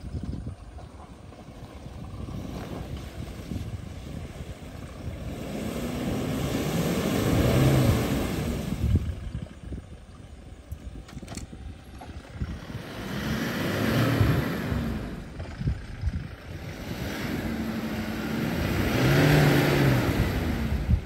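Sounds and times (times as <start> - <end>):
suv engine revving: 1.2 - 10.5, 11.4 - 21.0.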